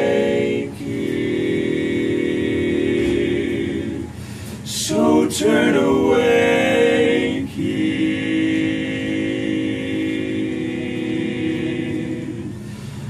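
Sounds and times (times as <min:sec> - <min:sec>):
men singing a cappella chord: 0:00.0 - 0:13.0.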